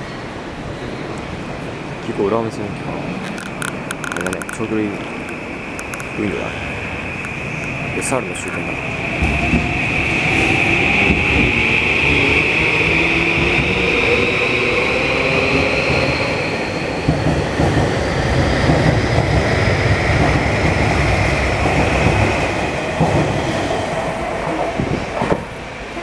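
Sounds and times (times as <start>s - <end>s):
wheel rumble and clatter on rails: 0.0s - 26.0s.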